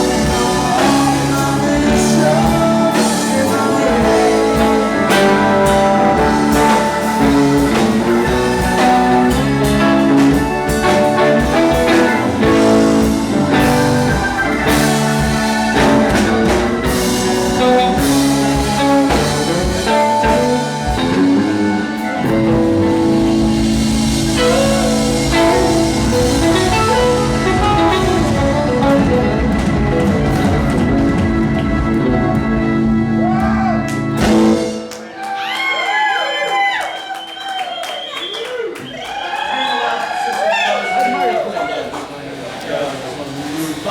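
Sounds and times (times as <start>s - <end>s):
drum kit: 0.0s - 35.6s
electric guitar: 0.0s - 35.9s.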